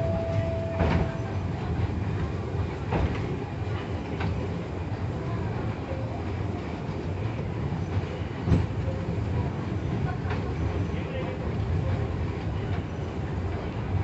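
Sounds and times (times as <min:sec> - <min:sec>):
cable car rumbling on rails: 0:00.0 - 0:14.0.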